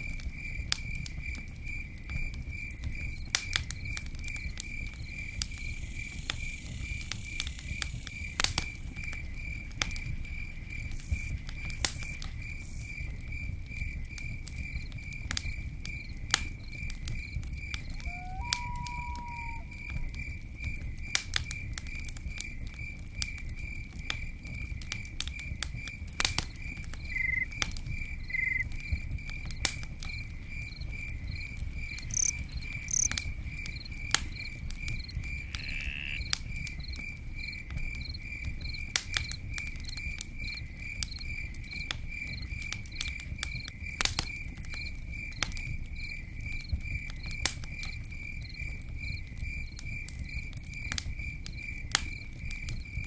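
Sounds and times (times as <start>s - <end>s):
campfire crackling and popping: 0.0s - 53.0s
cricket chirping: 0.0s - 53.0s.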